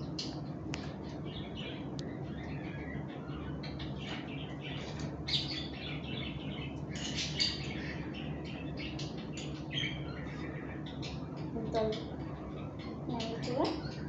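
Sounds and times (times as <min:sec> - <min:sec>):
small bird chirping and squawking: 0:00.0 - 0:14.0
steady low hum: 0:00.0 - 0:14.0.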